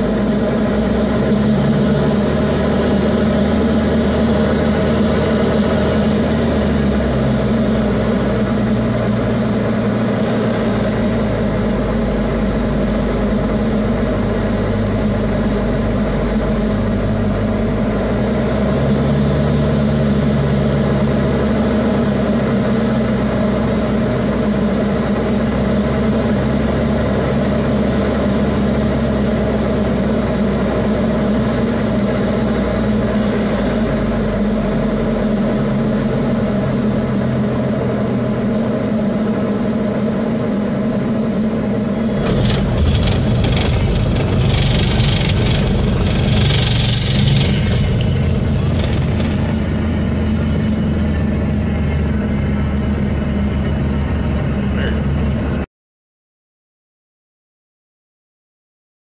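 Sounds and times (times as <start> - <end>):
aircraft engine drone in cockpit: 0.0 - 55.7.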